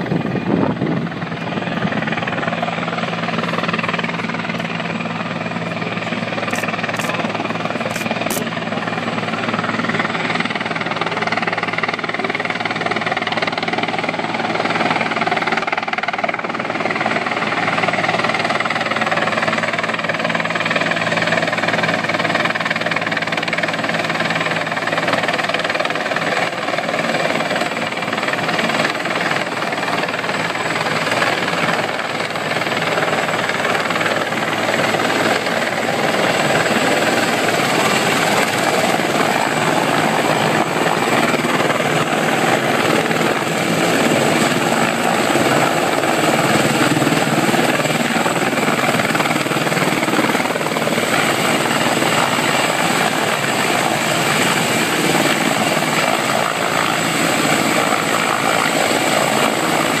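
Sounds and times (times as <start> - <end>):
helicopter rotor and engines: 0.0 - 60.0.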